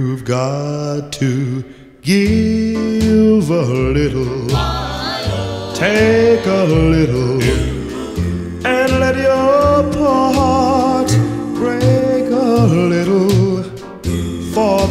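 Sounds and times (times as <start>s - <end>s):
song with singing over bass: 2.2s - 14.9s.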